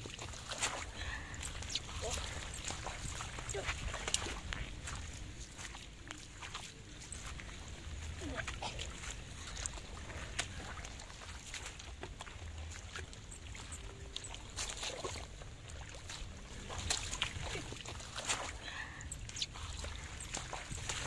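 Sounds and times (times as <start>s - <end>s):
low steady rumble: 0.0s - 21.0s
splashing in muddy water: 0.0s - 21.0s.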